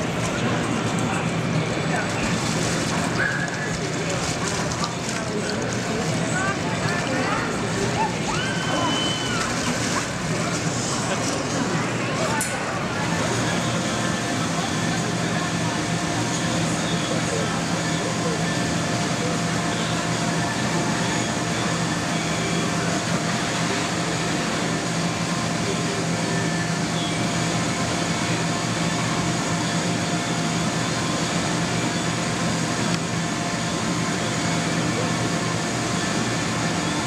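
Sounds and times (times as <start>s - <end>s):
electric fan running: 0.0s - 37.0s.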